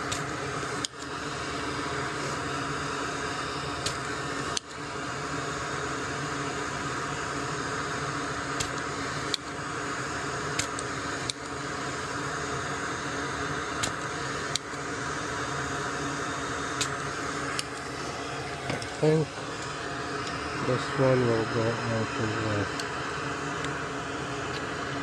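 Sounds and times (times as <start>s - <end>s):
fan whirring: 0.0s - 25.0s.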